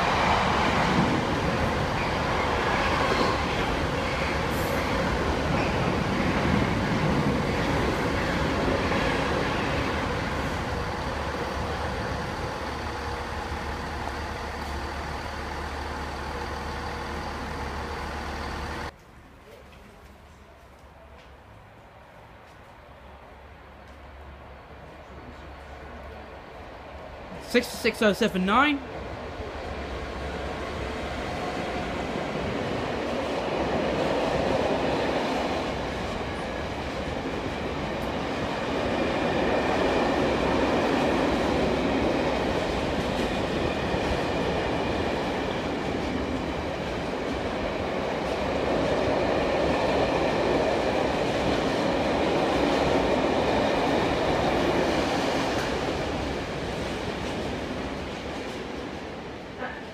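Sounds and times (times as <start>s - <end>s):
train wheels rumbling on rails: 0.0s - 19.0s, 23.8s - 59.9s.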